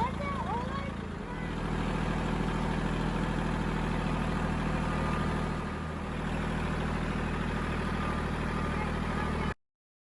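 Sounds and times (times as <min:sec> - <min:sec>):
tractor diesel engine running: 0:00.0 - 0:09.6.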